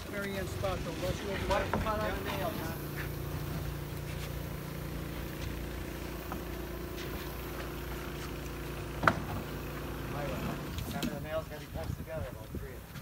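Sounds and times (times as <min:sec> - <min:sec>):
low engine hum: 0:00.0 - 0:12.2.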